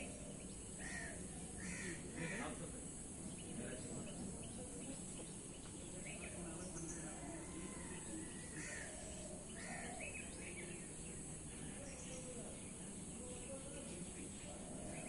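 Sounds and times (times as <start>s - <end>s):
birds calling: 0.0s - 15.0s
steady high hiss: 0.0s - 15.0s.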